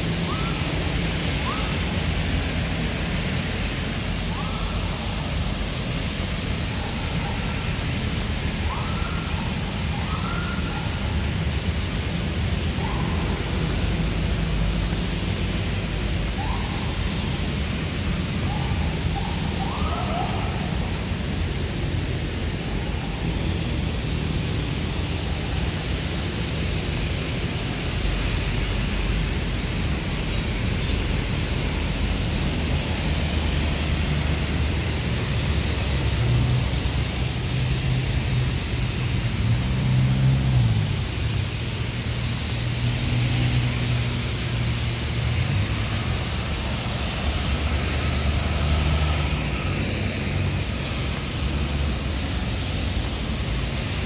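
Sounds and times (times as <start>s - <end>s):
rain falling on paving: 0.0s - 54.0s.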